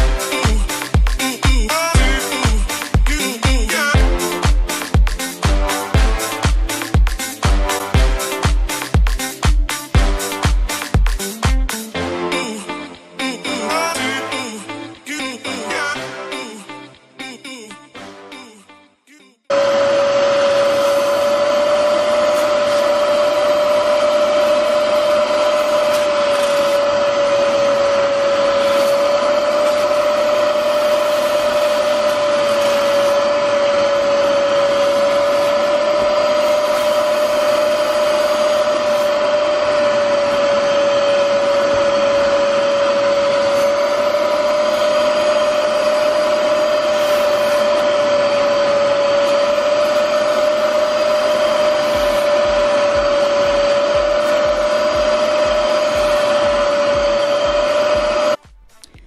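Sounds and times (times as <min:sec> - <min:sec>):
carpet cleaner motor whining: 0:00.0 - 0:11.3, 0:19.5 - 0:58.5.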